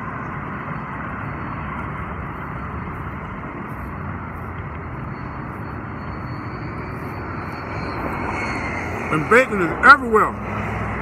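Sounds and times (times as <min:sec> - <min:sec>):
outdoor rushing hiss and rumble: 0:00.0 - 0:11.0.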